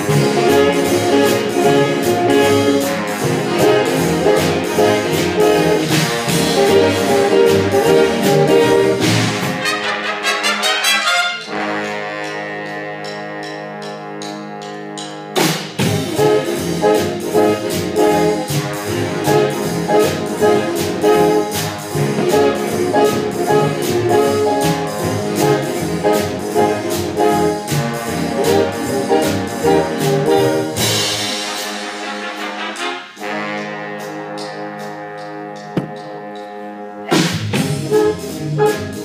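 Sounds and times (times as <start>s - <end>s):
big band playing swing: 0.0s - 39.0s.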